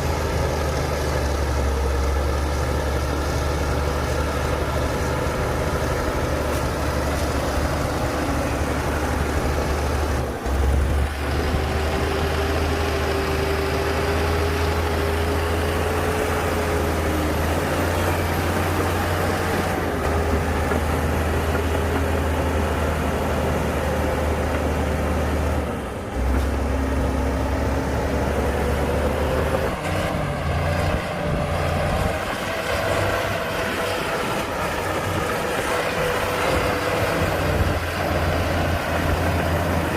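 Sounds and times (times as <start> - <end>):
diesel machinery engine hum: 0.0 - 39.9
faint engine whine: 0.0 - 39.9.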